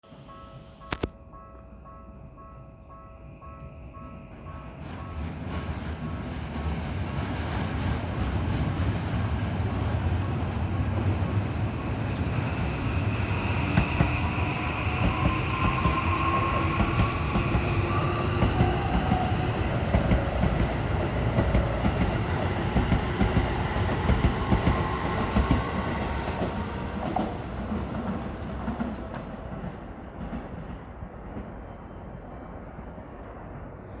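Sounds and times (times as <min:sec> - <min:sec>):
thin train whine: 0:00.1 - 0:34.0
train wheels rumbling over rails: 0:04.0 - 0:34.0.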